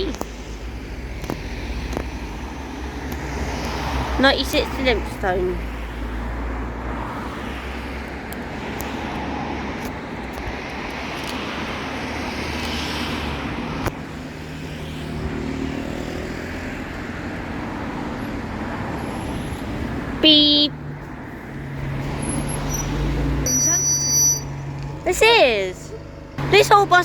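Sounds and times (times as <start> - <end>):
bus engine running: 0.0 - 27.0
street traffic: 0.0 - 27.0.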